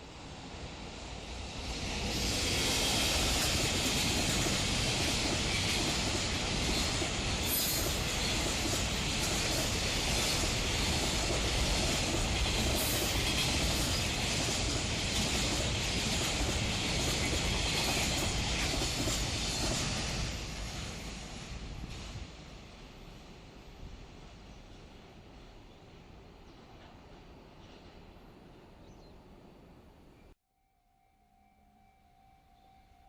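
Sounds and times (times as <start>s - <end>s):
freight train rolling past: 0.0s - 30.3s.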